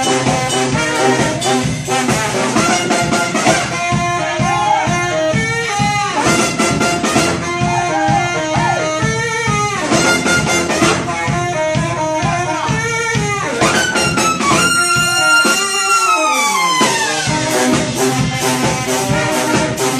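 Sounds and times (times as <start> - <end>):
brass band playing upbeat tune: 0.0 - 19.9
drum kit beat: 0.0 - 19.9.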